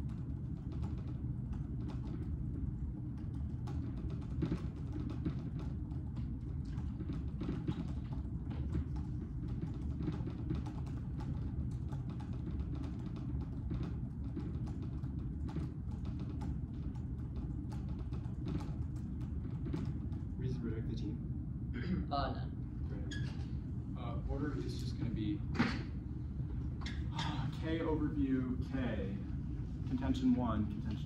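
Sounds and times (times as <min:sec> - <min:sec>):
low room hum: 0:00.0 - 0:31.0.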